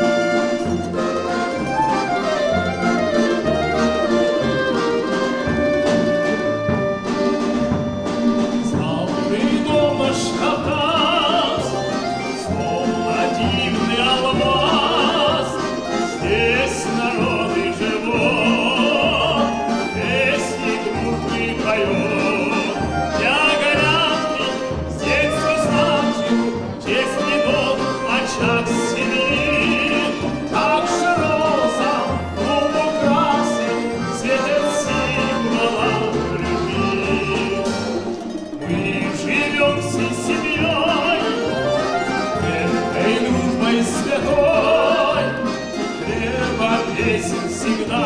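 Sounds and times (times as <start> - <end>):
double bass line: 0.0 - 48.0
plucked string orchestra: 0.0 - 48.0
man singing operatically: 8.6 - 48.0.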